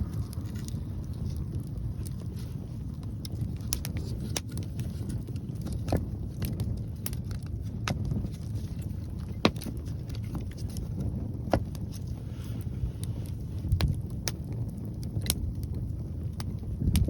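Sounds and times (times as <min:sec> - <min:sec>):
campfire crackling: 0:00.0 - 0:17.0
sharp pops of fire: 0:00.0 - 0:17.0
wind rumble on microphone: 0:00.0 - 0:17.0.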